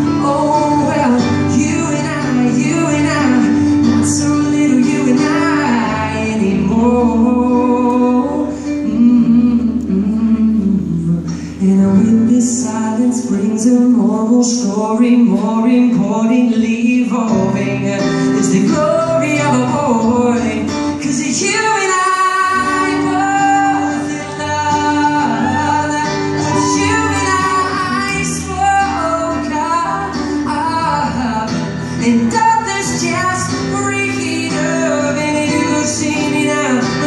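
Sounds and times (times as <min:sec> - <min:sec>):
acoustic guitar: 0:00.0 - 0:37.0
person singing: 0:00.0 - 0:37.0.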